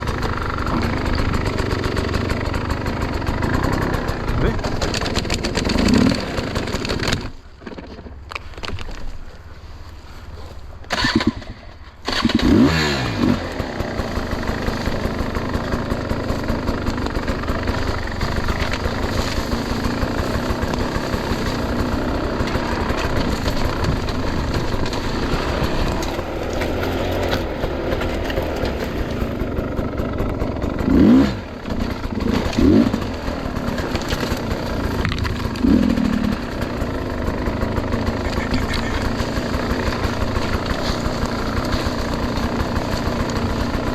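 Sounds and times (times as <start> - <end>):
dirt bike engine revving: 0.0 - 7.4, 10.0 - 43.9.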